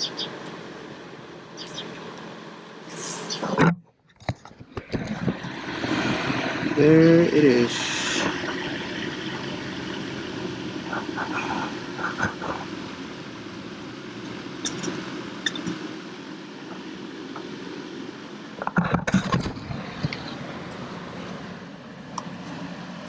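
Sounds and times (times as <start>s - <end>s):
motor hum: 0.0s - 23.0s.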